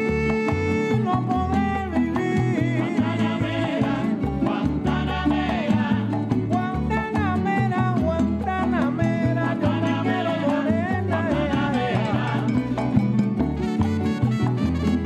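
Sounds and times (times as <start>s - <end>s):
salsa music: 0.0s - 15.0s.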